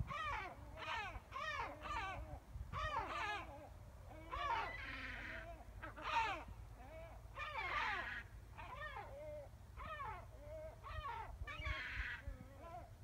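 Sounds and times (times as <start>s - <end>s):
birds harsh calls: 0.0s - 13.0s.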